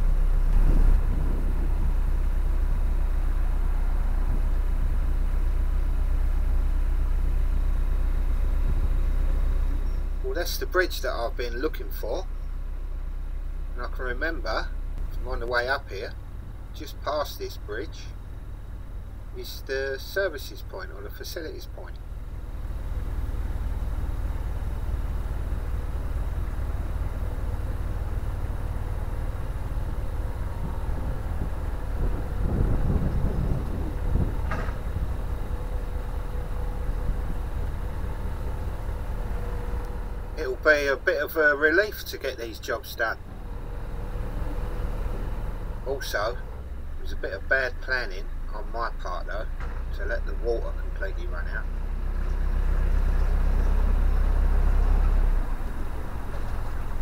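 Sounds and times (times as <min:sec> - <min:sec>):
boat diesel engine rumbling: 0:00.0 - 0:57.0.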